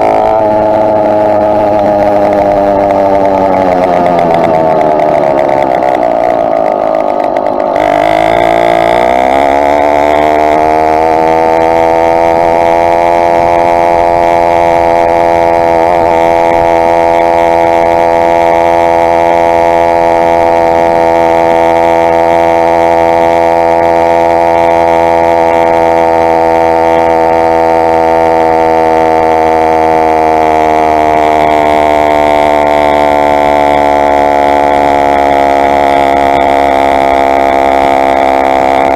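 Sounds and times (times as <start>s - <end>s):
small two-stroke engine running: 0.0s - 38.9s.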